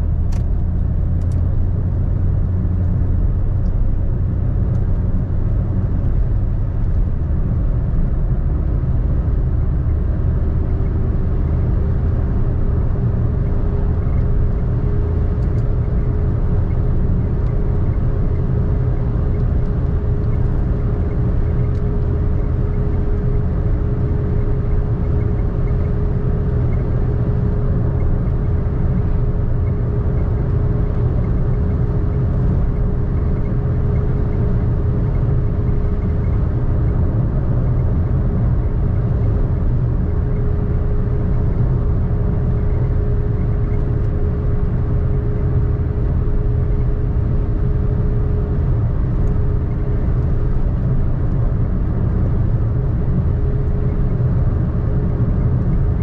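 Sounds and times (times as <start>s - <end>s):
car tyres and engine rumble: 0.0s - 56.0s
steady hum: 10.6s - 56.0s.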